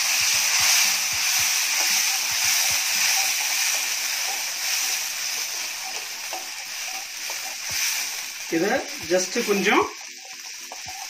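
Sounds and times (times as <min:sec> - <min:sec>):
paste sizzling in hot oil: 0:00.0 - 0:11.0
spoon stirring in metal pan: 0:00.0 - 0:11.0.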